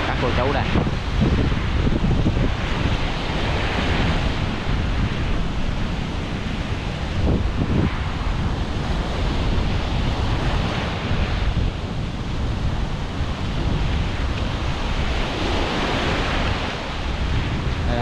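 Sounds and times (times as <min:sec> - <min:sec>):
sea surf washing onto beach: 0:00.0 - 0:18.0
wind rumbling on microphone: 0:00.0 - 0:18.0.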